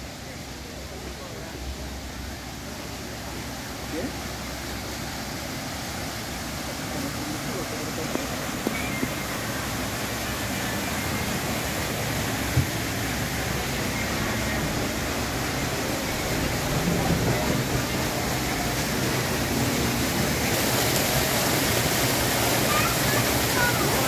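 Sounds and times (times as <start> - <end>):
rushing outdoor noise: 0.0 - 24.0.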